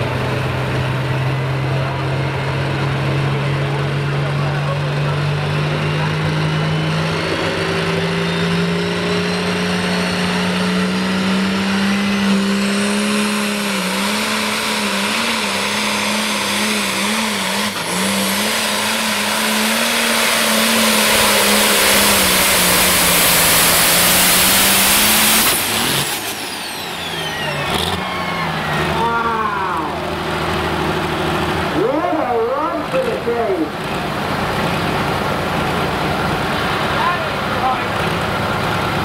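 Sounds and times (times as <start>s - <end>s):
diesel tractor engine at full throttle: 0.0s - 39.0s.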